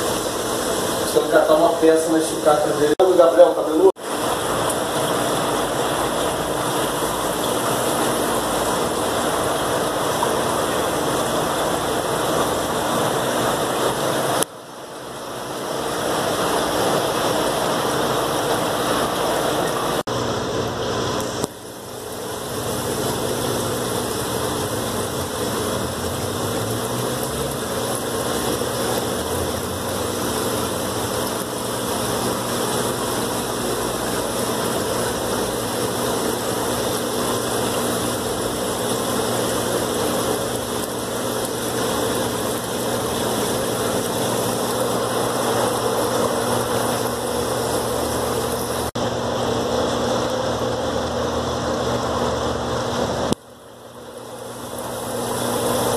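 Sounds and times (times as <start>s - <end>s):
aquarium equipment humming: 0.0s - 55.9s.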